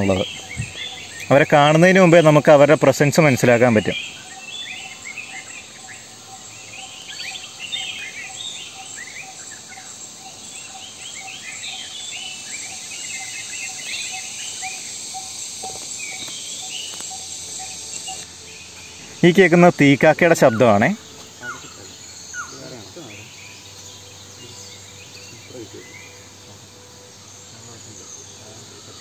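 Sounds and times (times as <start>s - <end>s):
birds chirping and whistling: 0.0s - 29.0s
insects buzzing: 0.0s - 29.0s.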